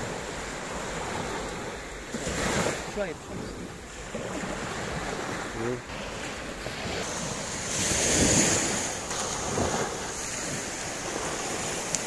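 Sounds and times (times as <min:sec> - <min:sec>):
waves washing up a beach: 0:00.0 - 0:12.0
wind buffeting microphone: 0:00.0 - 0:12.0.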